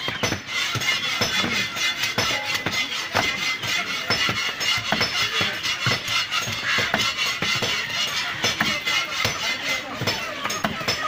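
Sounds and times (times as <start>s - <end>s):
knife chopping fish on wood: 0.0s - 11.0s.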